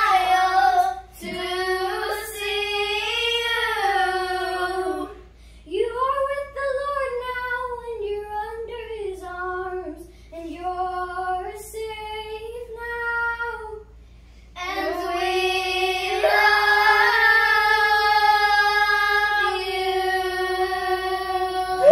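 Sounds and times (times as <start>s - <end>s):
girls singing unaccompanied: 0.0s - 13.7s, 14.6s - 21.9s.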